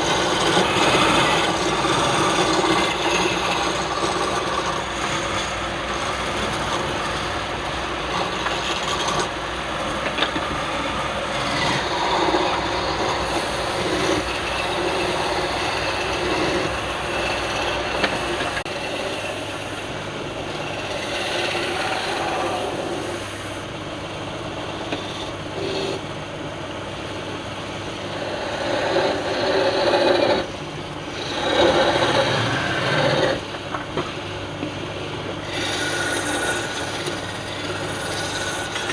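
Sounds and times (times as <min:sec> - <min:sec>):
tool scraping spinning wood: 0:00.0 - 0:23.7, 0:24.5 - 0:26.0, 0:26.9 - 0:38.9
lathe motor hum: 0:00.0 - 0:38.9.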